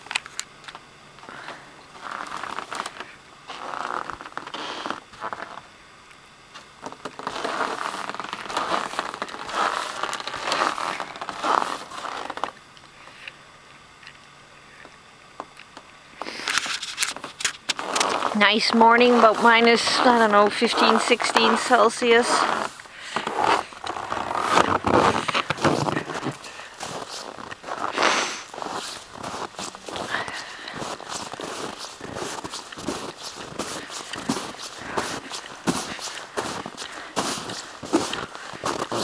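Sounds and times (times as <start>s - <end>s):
footsteps crunching in snow: 1.9s - 5.7s, 6.5s - 12.6s, 16.2s - 39.0s.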